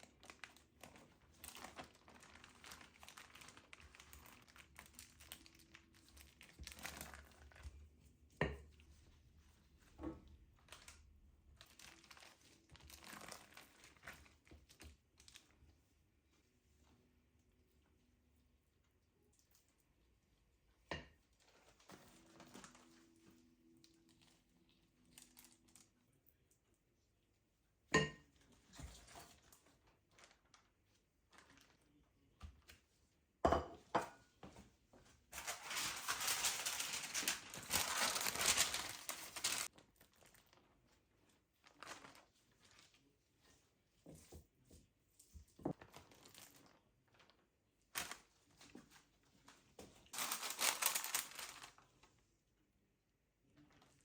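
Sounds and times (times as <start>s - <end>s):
crinkling and rustling: 0.0s - 17.3s, 21.2s - 27.0s, 28.3s - 33.2s, 34.2s - 52.4s.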